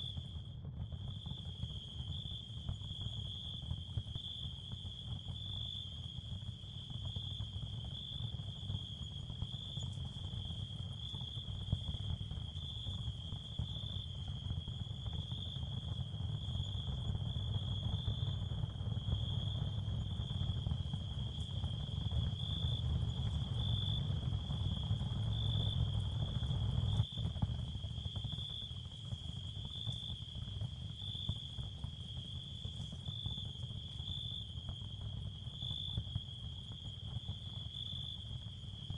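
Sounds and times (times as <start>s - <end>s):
continuous low rumble: 0.0s - 38.9s
high cricket-like chirring: 1.2s - 38.9s.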